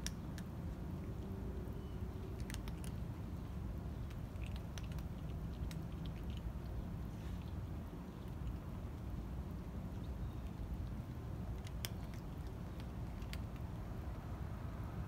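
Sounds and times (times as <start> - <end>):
cats crunching dry kibble: 0.0 - 14.2
steady low rumble: 0.0 - 15.0.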